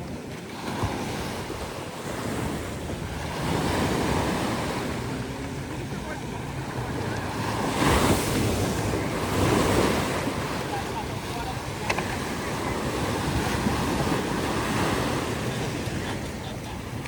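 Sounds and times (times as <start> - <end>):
ocean surf on beach: 0.0 - 17.0
wind buffeting microphone: 0.0 - 17.0.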